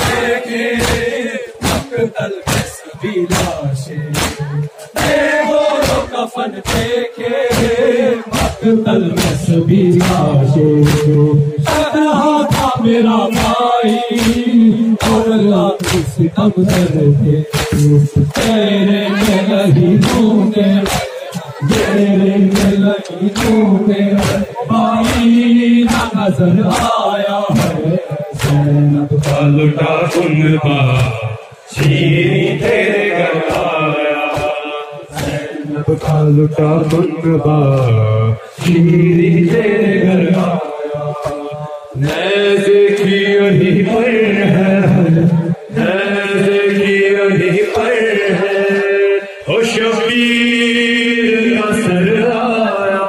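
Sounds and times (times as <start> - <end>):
rhythmic chest slaps: 0.0 - 52.4
men chanting a lament: 0.0 - 53.0.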